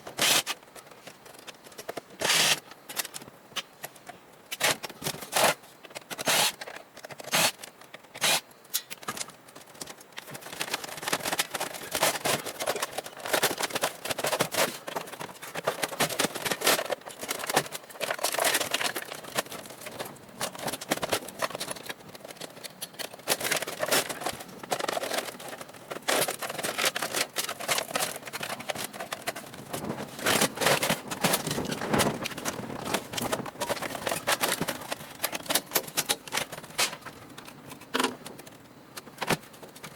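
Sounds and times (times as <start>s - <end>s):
metal parts clicking and clattering: 4.5s - 39.9s.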